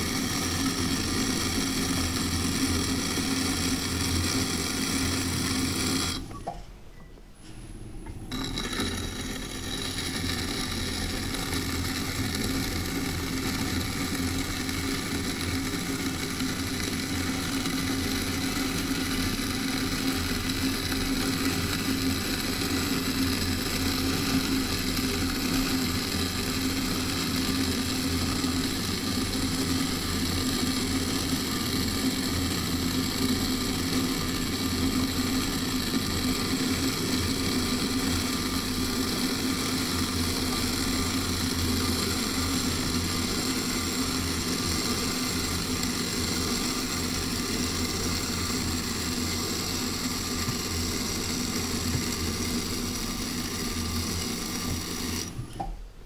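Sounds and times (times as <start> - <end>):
metal tool cutting clay: 0.0 - 6.4, 8.2 - 55.4
potter's wheel motor running: 0.0 - 6.6, 7.9 - 55.7.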